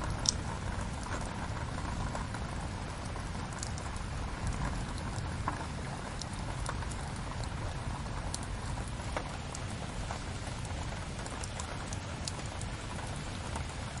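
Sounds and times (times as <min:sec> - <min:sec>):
burning logs popping and snapping: 0:00.0 - 0:14.0
rain hissing: 0:00.0 - 0:14.0.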